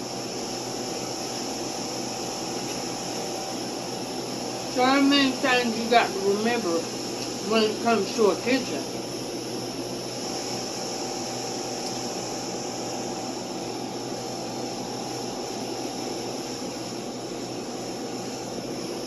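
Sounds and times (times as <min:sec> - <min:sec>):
faint steady hum: 0:00.0 - 0:19.0
steady hiss: 0:00.0 - 0:19.0.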